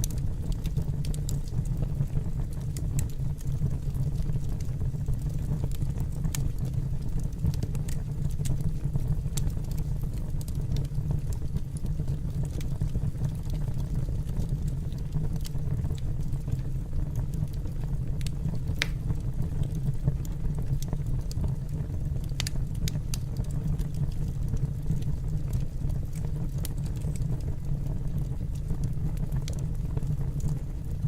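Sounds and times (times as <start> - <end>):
fire crackling and popping: 0.0 - 31.0
fire rumbling: 0.0 - 31.0.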